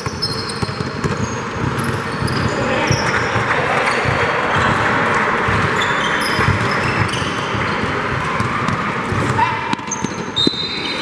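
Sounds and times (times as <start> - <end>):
basketball bouncing: 0.0 - 11.0
gym hall noise: 0.0 - 11.0
sneakers squeaking: 0.0 - 11.0.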